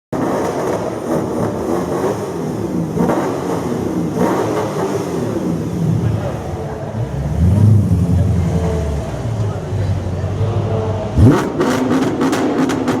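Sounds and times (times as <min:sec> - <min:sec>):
car engine revving: 0:00.2 - 0:13.0.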